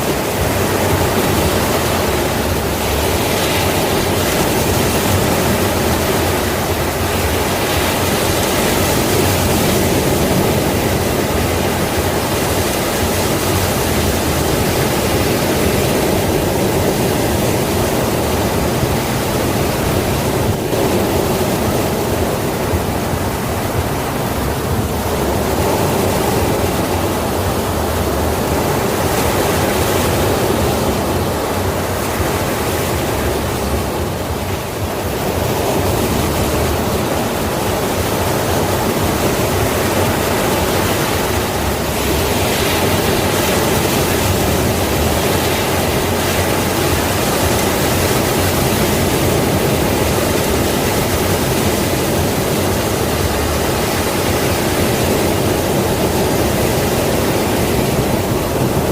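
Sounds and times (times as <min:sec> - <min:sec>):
sea waves surf rushing: 0:00.0 - 0:58.9.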